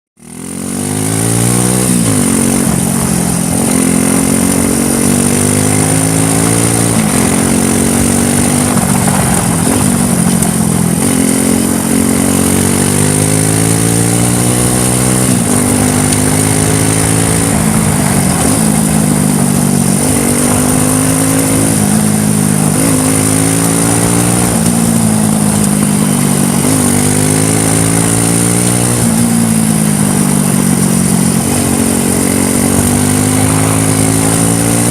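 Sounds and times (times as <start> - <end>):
quad bike engine revving: 0.2 - 34.9.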